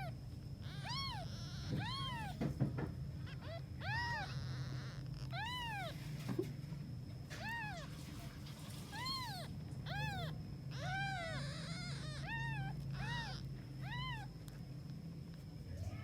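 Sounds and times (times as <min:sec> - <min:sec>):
kittens mewing: 0:00.0 - 0:06.6, 0:07.2 - 0:14.7.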